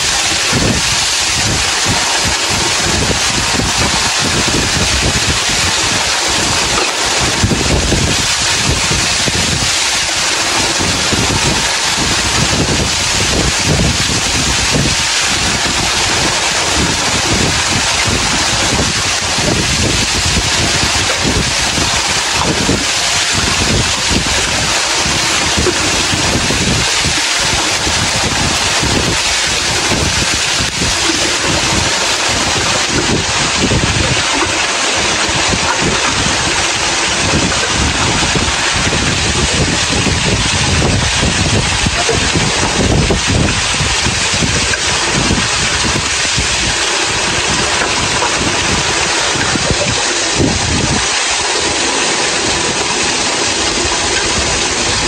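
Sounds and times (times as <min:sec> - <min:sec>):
waterfall rushing: 0:00.0 - 0:55.0
wind buffeting microphone: 0:00.0 - 0:55.0.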